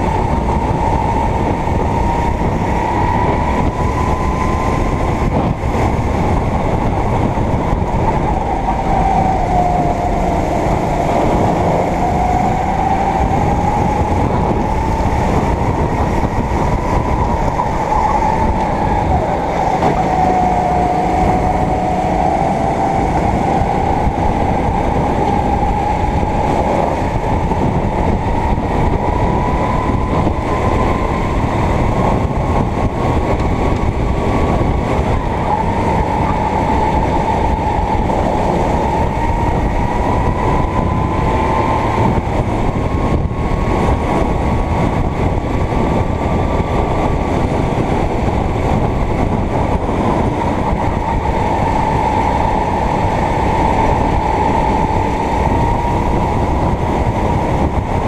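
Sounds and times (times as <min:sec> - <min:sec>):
racing kart engine whining: 0:00.0 - 0:58.0.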